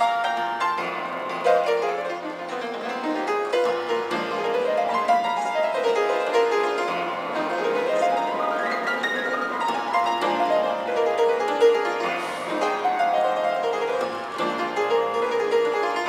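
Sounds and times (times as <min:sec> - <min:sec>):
upright piano fast runs: 0:00.0 - 0:16.0.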